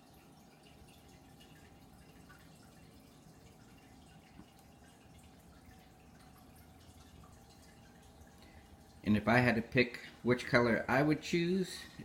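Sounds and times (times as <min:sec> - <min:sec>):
thin steady hum: 0:00.0 - 0:12.0.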